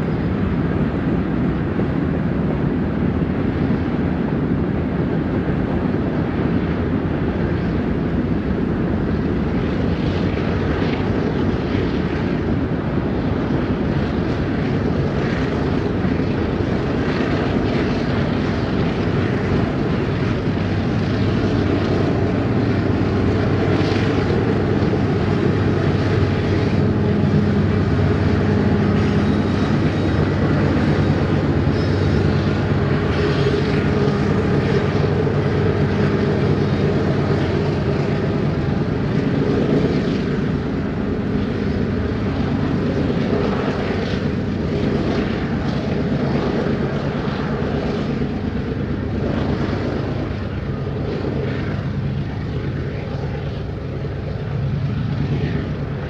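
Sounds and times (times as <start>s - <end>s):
diesel locomotive engine drone: 0.0s - 56.0s
train cars rumbling: 0.0s - 56.0s.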